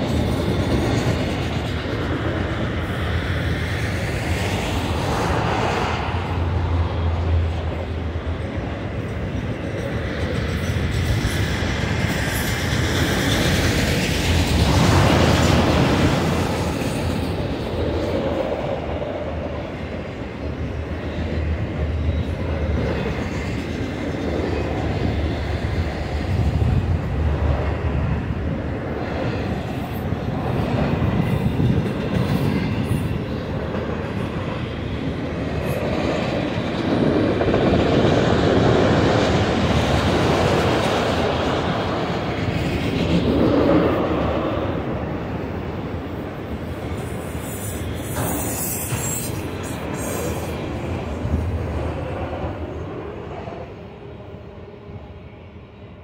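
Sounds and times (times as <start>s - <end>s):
wheels clickety-clack: 0.0s - 6.1s, 7.3s - 19.2s, 20.1s - 27.9s, 28.5s - 44.6s, 46.4s - 52.4s
freight cars rumbling on rail: 0.0s - 56.0s.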